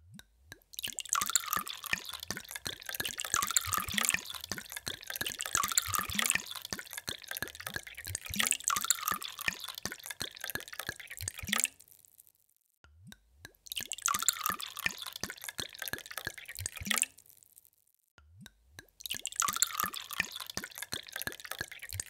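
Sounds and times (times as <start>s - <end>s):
water pouring into a glass: 0.7s - 11.9s, 13.7s - 17.3s, 19.0s - 22.0s.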